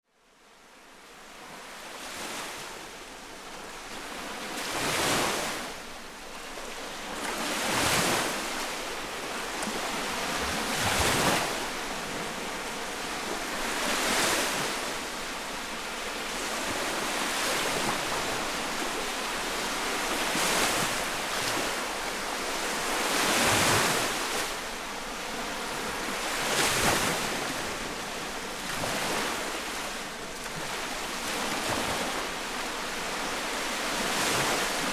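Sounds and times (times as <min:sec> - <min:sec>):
waves washing onto shore: 0:01.3 - 0:34.9.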